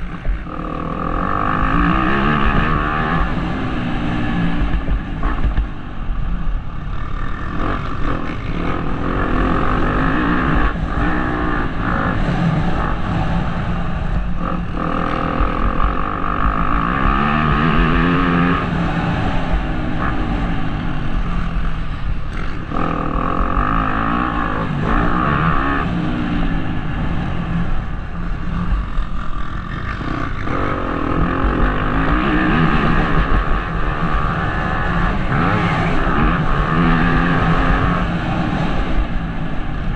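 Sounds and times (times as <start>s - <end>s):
motocross bike engine revving: 0.0s - 39.9s
wind rumble on microphone: 0.0s - 39.9s.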